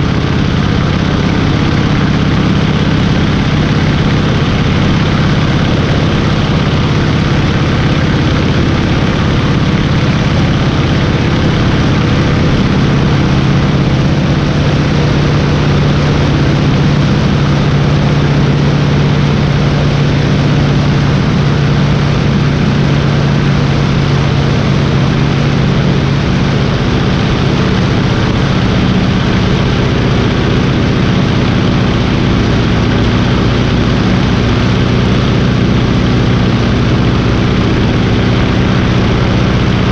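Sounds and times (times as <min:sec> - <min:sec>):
biplane engine and propeller: 0:00.0 - 0:39.9.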